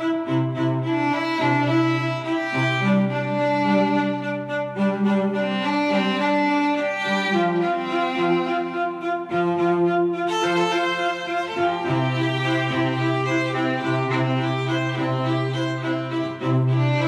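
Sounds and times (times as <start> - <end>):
bowed strings sustained chords: 0.0 - 17.0.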